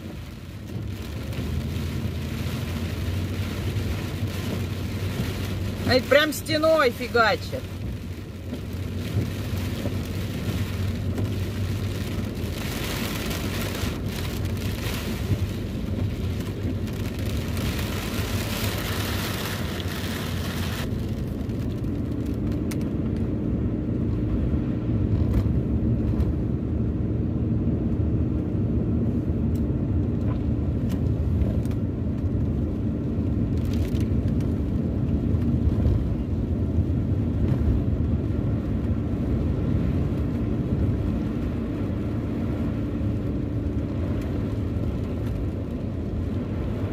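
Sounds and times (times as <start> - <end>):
car engine and road rumble: 0.0 - 46.9
heavy rain on a car: 0.0 - 46.9.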